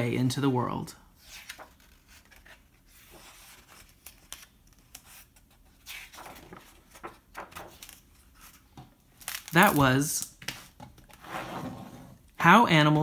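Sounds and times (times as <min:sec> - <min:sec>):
book pages turning: 0:01.2 - 0:11.7.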